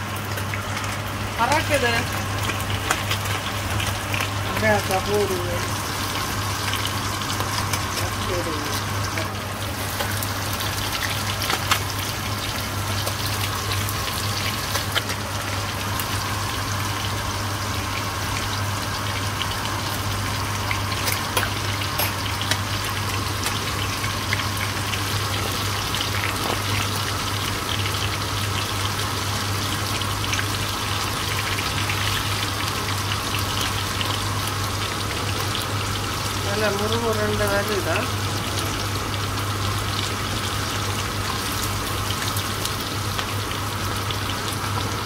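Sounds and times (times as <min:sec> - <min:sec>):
fish sizzling in hot oil: 0:00.0 - 0:45.0.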